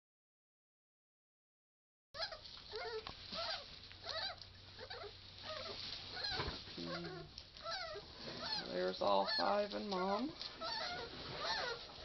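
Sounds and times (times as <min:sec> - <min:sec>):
puppies squeaking and whimpering: 0:02.2 - 0:12.0.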